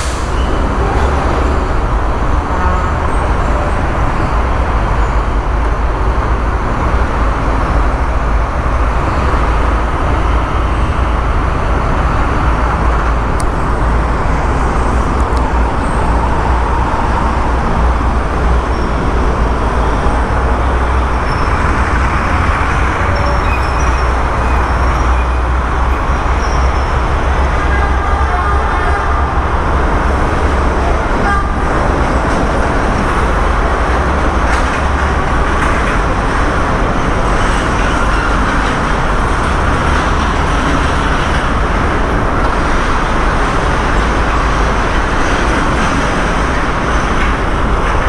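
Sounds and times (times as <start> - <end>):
vehicle and road rumble: 0.0 - 48.0.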